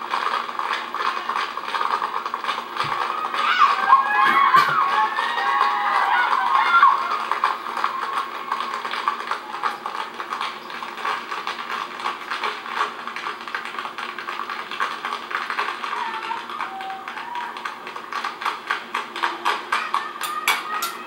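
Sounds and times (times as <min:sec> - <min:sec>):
tap shoes clicking on stage floor: 0:00.0 - 0:21.0.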